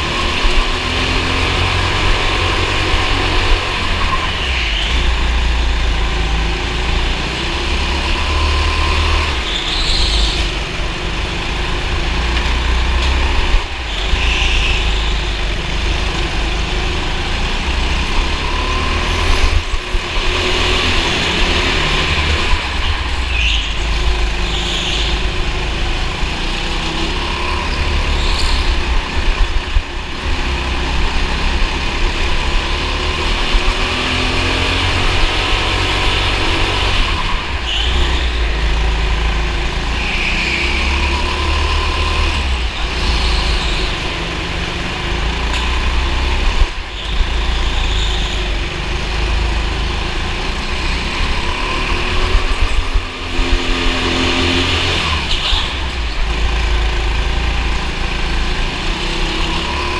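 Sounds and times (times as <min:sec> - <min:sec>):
go-kart engine racing: 0:00.0 - 0:59.9.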